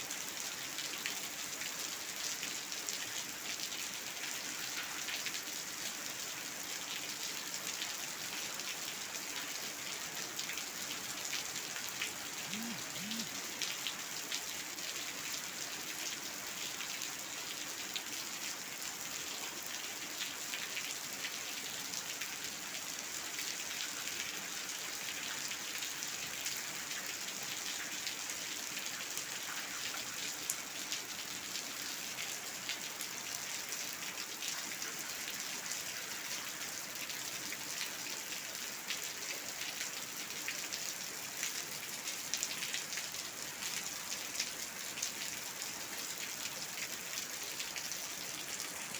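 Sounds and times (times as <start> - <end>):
rain falling on hard floor: 0.0 - 48.9.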